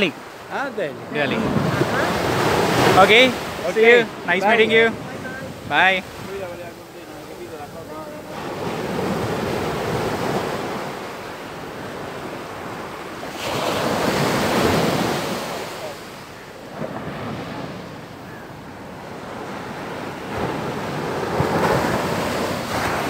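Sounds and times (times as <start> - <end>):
ocean waves crashing: 0.0 - 23.0
wind buffeting microphone: 0.0 - 23.0.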